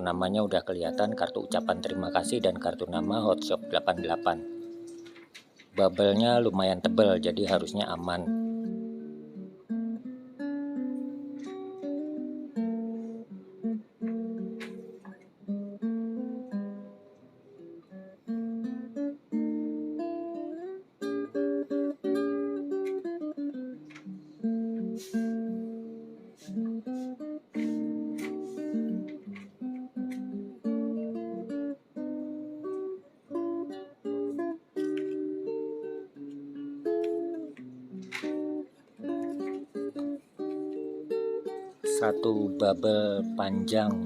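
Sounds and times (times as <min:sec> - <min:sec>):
acoustic guitar melody: 0:00.0 - 0:44.0.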